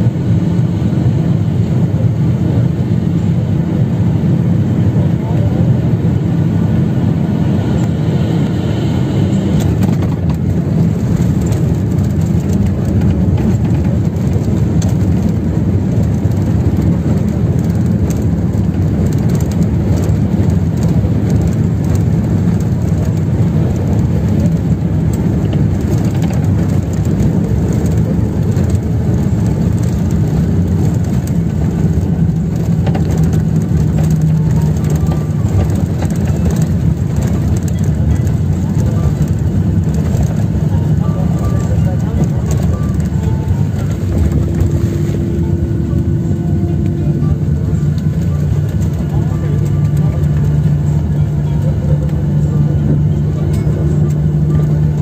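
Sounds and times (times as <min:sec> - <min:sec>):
jet engines and wheels rumbling: 0:00.0 - 0:55.0.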